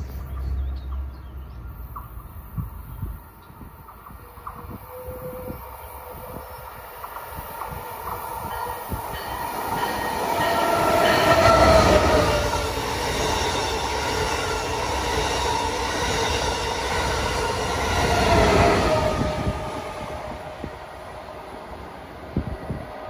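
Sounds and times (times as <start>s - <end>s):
wheels rumbling on rail: 0.0s - 23.0s
train whining tones: 2.5s - 23.0s.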